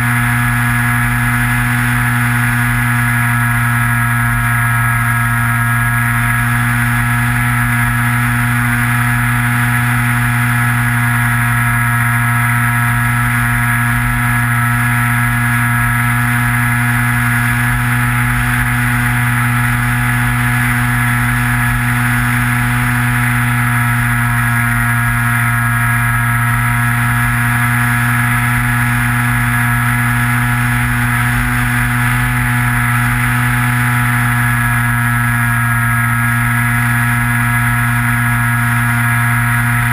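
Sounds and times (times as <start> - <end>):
electric motor and propeller humming: 0.0 - 39.9.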